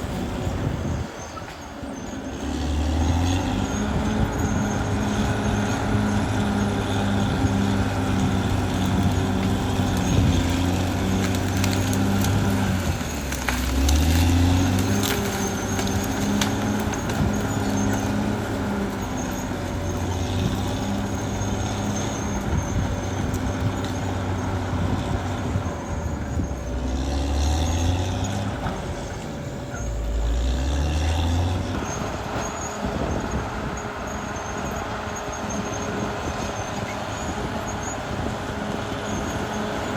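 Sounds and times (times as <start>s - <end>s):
bulldozer diesel engine revving: 0.0s - 39.9s.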